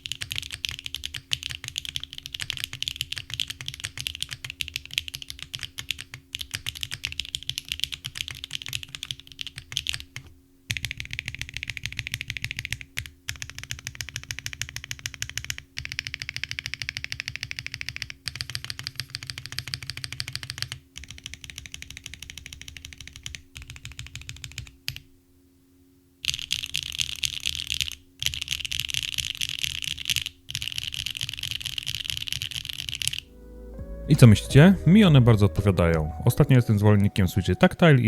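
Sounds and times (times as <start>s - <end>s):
typing on a mechanical keyboard: 0.0s - 25.1s, 26.2s - 33.2s.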